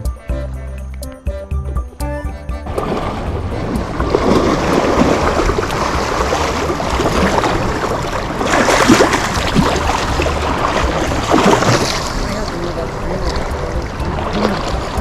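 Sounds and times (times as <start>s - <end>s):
low rumble: 2.6s - 15.0s
rushing water: 2.7s - 15.0s.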